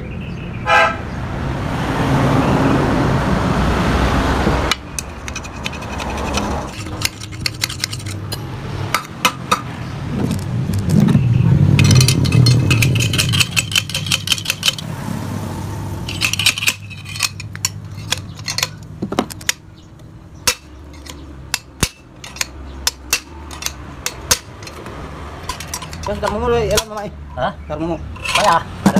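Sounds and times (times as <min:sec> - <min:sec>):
metal exhaust parts clinking: 0:04.7 - 0:15.0, 0:16.0 - 0:28.9.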